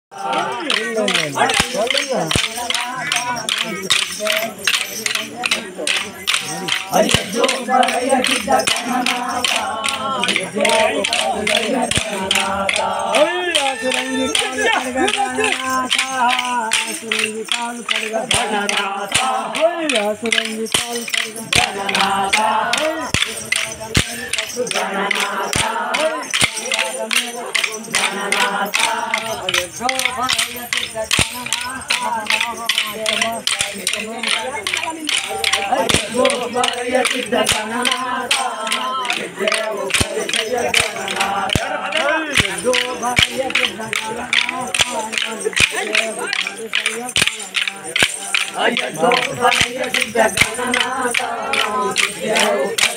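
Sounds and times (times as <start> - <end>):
people shouting: 0.1 - 17.2, 21.6 - 52.9
crowd chatter: 0.1 - 52.9
men singing together: 0.1 - 52.9
sticks struck in steady beat: 0.1 - 52.9.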